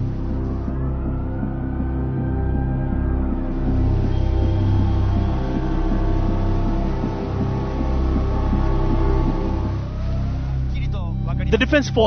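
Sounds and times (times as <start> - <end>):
droning background music: 0.0 - 12.0.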